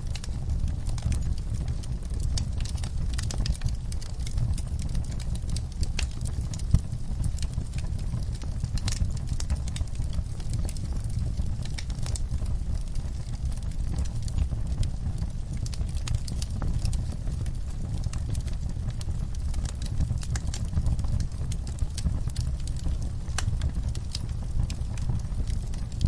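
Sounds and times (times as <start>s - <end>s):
log fire crackling: 0.0s - 26.0s
low rumble of flames: 0.0s - 26.0s.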